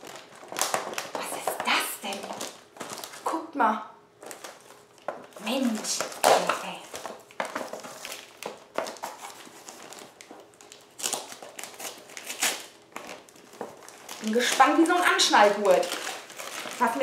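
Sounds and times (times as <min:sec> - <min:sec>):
wrapping paper rustling: 0:00.0 - 0:03.4, 0:04.2 - 0:17.0.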